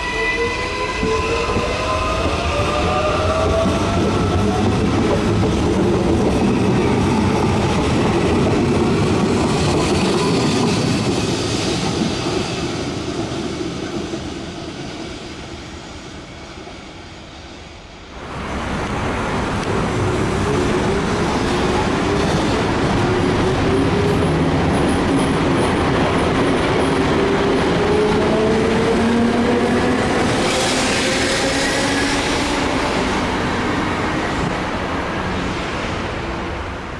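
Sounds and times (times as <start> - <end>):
metro train rumbling past: 0.0 - 36.9.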